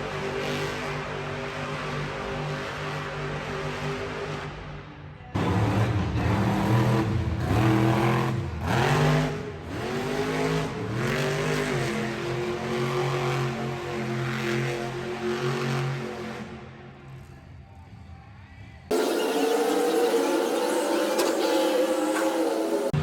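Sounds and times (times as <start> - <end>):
monster truck engine revving: 0.0 - 4.6, 5.4 - 16.8, 18.9 - 23.0.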